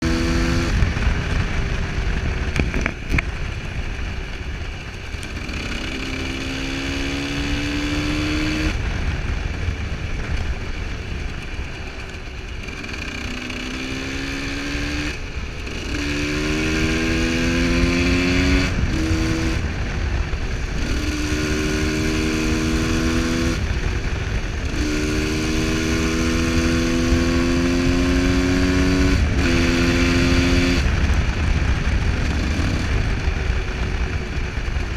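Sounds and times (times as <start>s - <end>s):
constant low rumble: 0.0s - 34.9s
motorcycle engine shifting gears: 0.0s - 34.9s.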